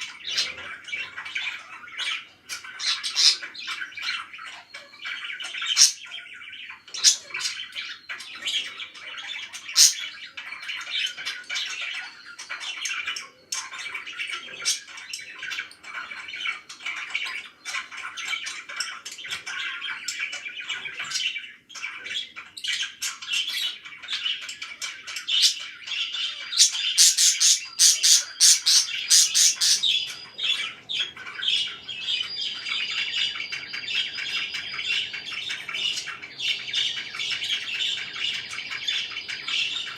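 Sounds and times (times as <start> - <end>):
parakeet squawks: 0.0 - 39.9
parakeets chirping: 0.0 - 39.9.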